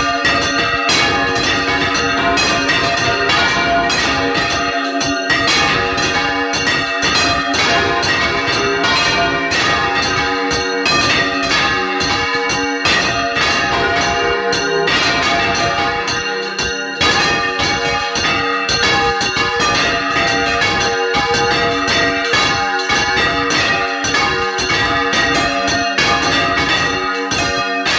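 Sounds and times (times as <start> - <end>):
church bells pealing: 0.0 - 27.9.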